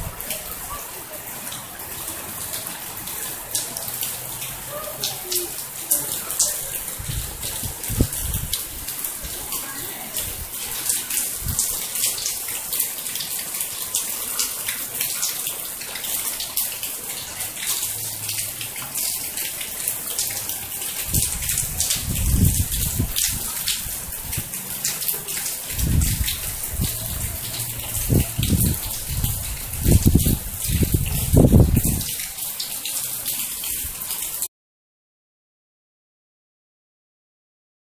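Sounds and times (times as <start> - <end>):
heavy rain pattering: 0.0 - 34.5.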